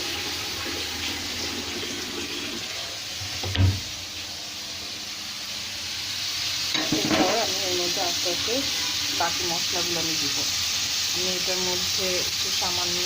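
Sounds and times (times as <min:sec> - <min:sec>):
masala sizzling in hot oil: 0:00.0 - 0:13.0.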